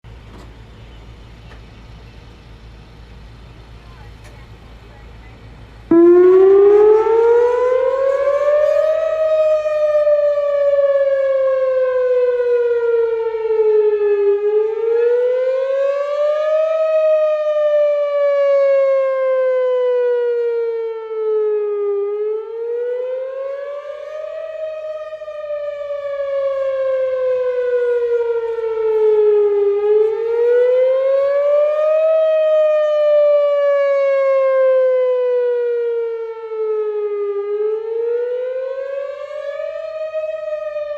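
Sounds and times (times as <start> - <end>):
tornado siren wailing: 5.0 - 40.9.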